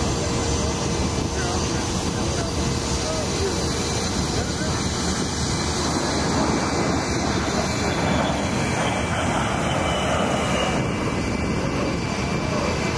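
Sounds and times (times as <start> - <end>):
jet aircraft flying past: 0.0 - 12.9.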